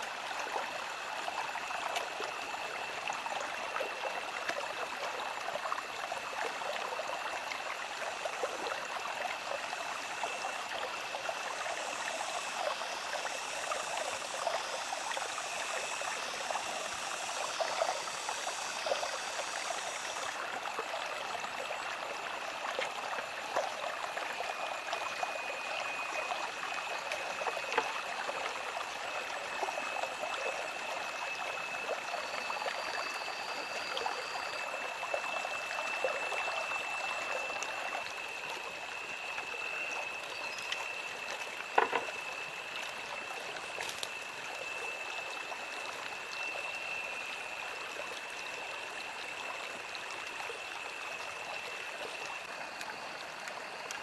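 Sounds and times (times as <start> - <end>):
water running and trickling: 0.0 - 54.0
thin steady high tone: 0.5 - 54.0.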